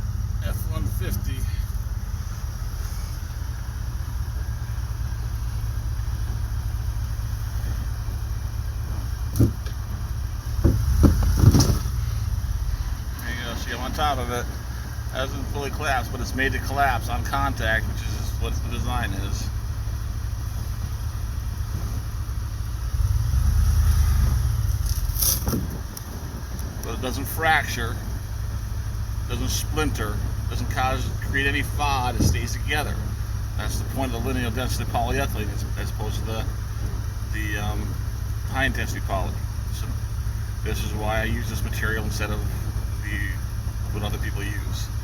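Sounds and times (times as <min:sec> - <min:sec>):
pickup engine rumbling: 0:00.0 - 0:45.0.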